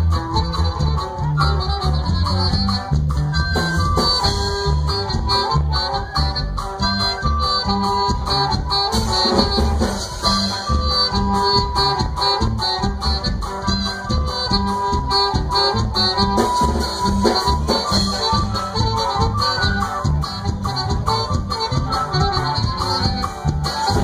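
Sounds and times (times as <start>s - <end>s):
accordion melody: 0.0s - 24.0s
bass line with steady beat: 0.0s - 24.0s.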